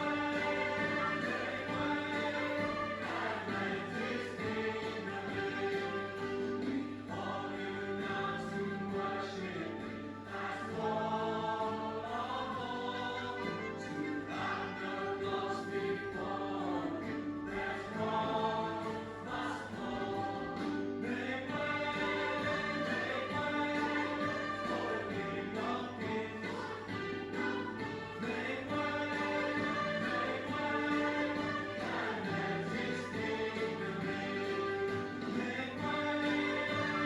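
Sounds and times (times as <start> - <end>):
choir singing a hymn: 0.0 - 37.0
instrumental accompaniment: 0.0 - 37.0.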